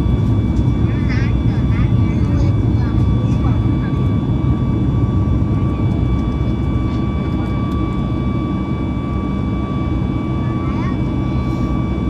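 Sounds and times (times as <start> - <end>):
airplane cabin engine rumble: 0.0 - 12.0
thin steady engine whine: 0.0 - 12.0.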